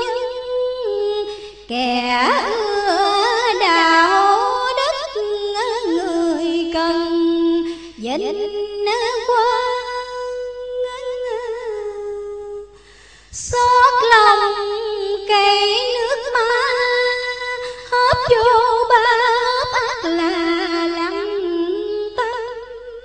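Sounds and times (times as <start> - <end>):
woman chanting: 0.0 - 12.7, 13.4 - 23.0.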